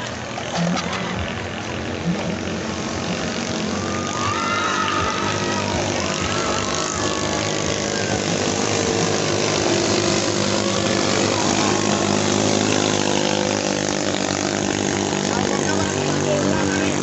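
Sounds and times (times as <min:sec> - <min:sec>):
racing boat engines running: 0:00.0 - 0:17.0.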